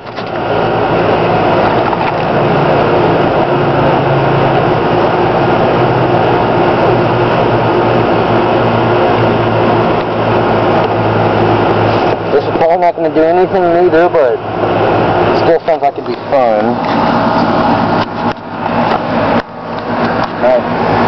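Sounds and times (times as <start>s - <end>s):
machine hum with low buzz: 0.0s - 21.0s.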